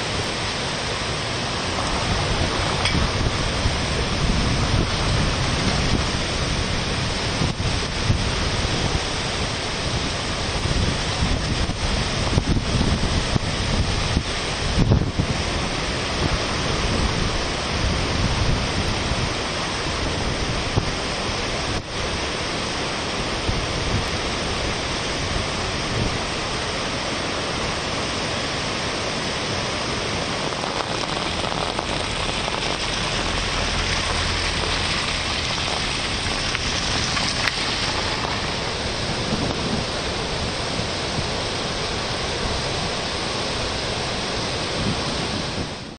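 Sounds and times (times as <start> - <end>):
river rushing in rapids: 0.0 - 45.9.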